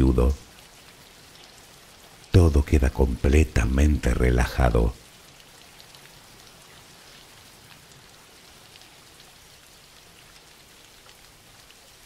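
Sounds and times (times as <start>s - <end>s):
raindrops ticking: 0.0s - 12.0s
steady rain: 0.0s - 12.0s.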